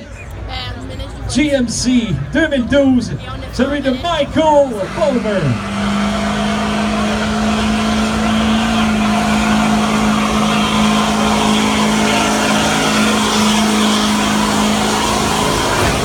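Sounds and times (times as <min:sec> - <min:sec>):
truck engine at high revs: 0:01.2 - 0:16.0.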